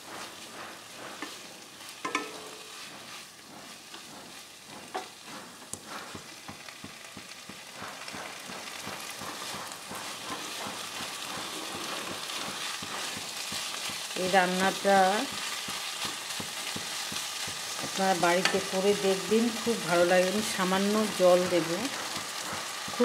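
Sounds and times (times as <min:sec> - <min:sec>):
spatula scraping and knocking pan: 0:00.0 - 0:23.0
vegetables sizzling in a pan: 0:00.0 - 0:23.0.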